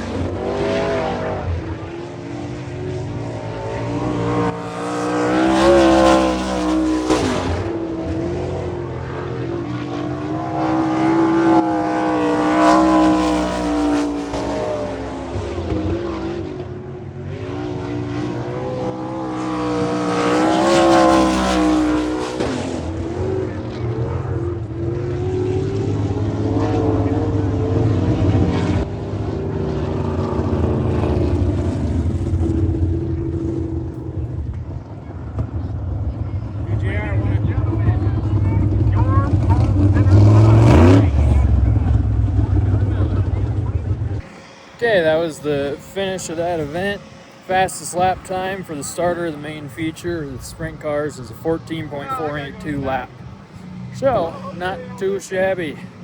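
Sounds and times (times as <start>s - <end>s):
race car engines roaring: 0.0s - 56.0s.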